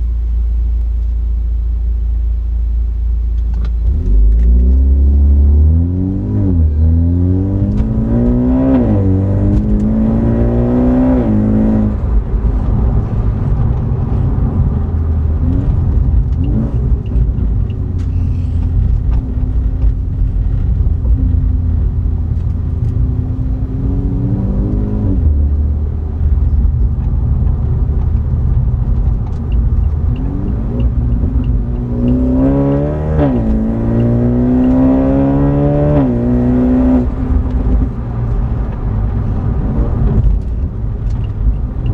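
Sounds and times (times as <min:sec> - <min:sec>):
car engine accelerating through gears: 0:03.4 - 0:41.9.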